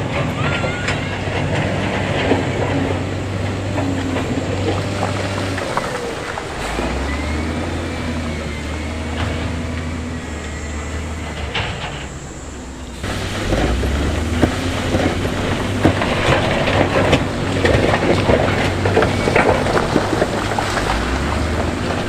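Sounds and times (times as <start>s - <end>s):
diesel construction machinery running: 0.0s - 22.0s.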